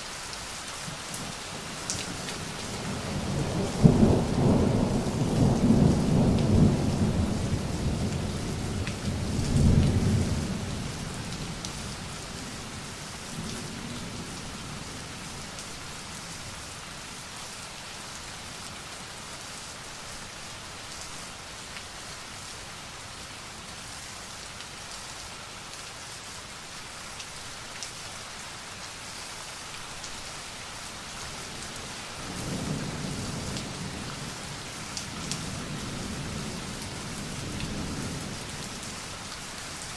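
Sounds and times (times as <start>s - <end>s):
heavy rain hissing: 0.0s - 18.6s, 19.7s - 39.9s.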